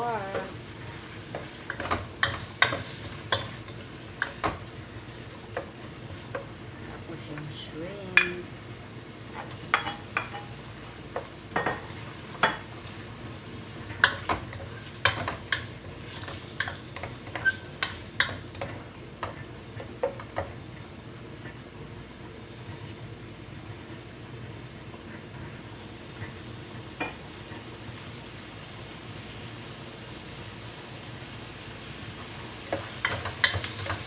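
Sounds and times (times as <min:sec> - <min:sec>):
food sizzling in a wok: 0:00.0 - 0:34.0.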